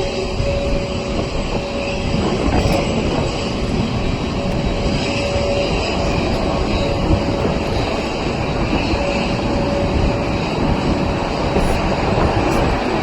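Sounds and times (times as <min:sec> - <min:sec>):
faint engine whine: 0:00.0 - 0:13.0
jet engines rumbling: 0:00.0 - 0:13.0.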